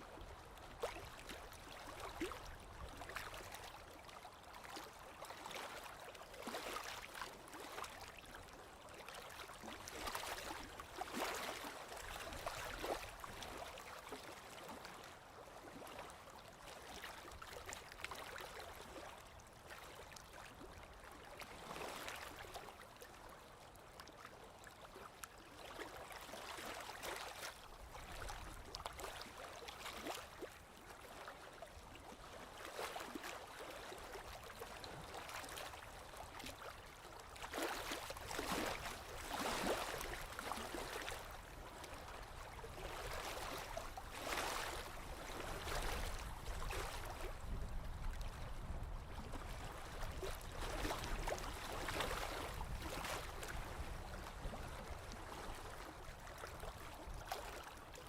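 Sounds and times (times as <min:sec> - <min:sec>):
lake waves lapping on shore: 0:00.0 - 0:58.0.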